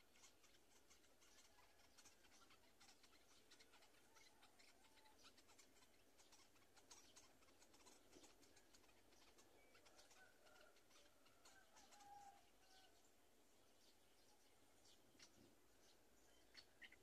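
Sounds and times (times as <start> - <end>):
faint bird calls: 0.0 - 17.0.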